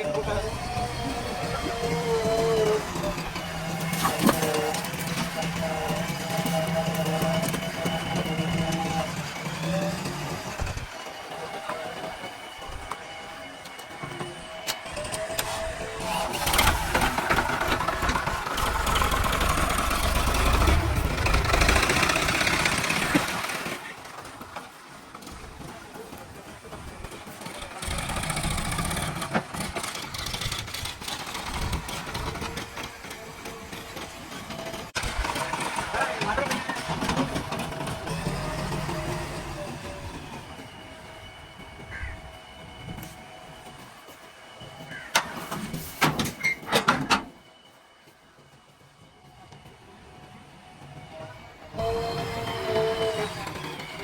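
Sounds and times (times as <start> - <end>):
diesel engine humming: 0.0 - 47.2.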